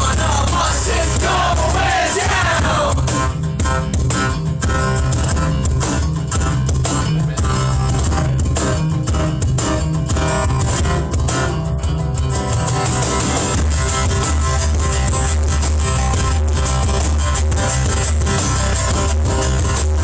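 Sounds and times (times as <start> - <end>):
bass line: 0.0 - 20.0
steady drum beat: 0.0 - 20.0
strummed guitar: 0.0 - 20.0.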